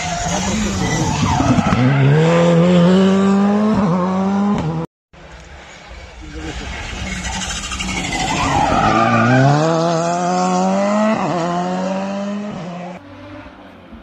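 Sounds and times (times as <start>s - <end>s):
rally car accelerating: 0.0s - 14.0s.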